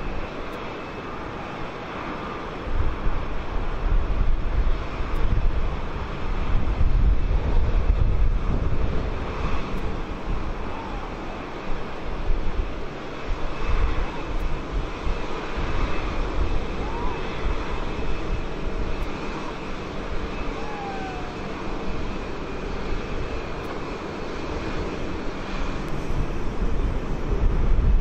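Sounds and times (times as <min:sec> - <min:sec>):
jet engines whining: 0:00.0 - 0:27.7.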